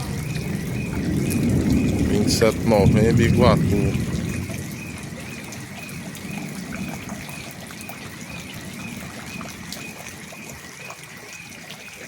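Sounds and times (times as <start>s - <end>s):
heavy rain: 0.0s - 11.9s
rainwater running and trickling: 0.0s - 12.0s.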